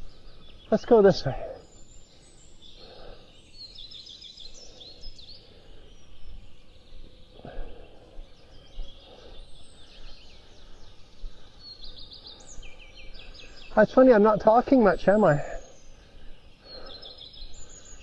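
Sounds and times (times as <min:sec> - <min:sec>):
small birds singing: 0:00.0 - 0:18.0.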